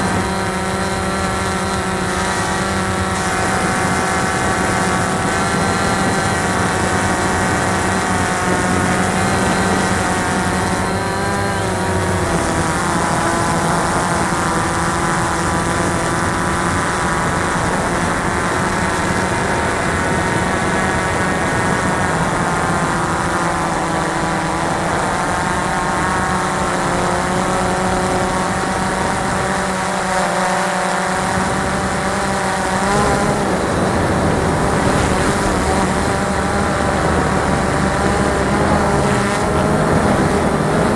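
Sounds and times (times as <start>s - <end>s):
drone motors whining: 0.0s - 40.9s.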